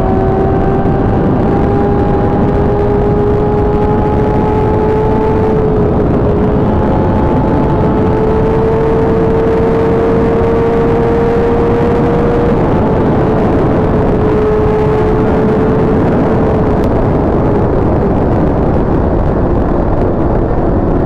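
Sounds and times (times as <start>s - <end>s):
motorcycle engine cruising: 0.0s - 21.0s
wind rush on microphone: 0.0s - 21.0s.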